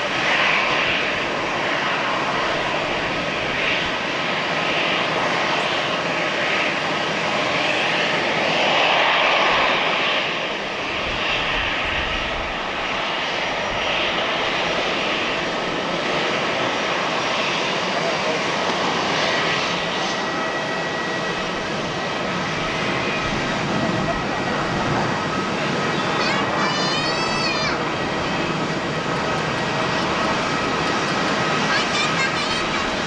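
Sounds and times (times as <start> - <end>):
jet engines running with whine: 0.0 - 33.0.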